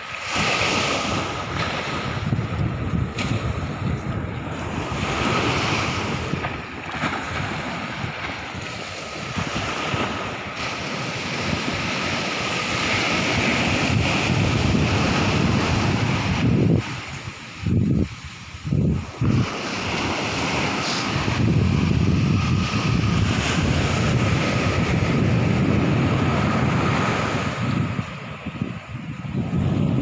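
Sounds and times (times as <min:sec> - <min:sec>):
sea water rushing: 0:00.0 - 0:30.0
wind buffeting microphone: 0:00.0 - 0:30.0.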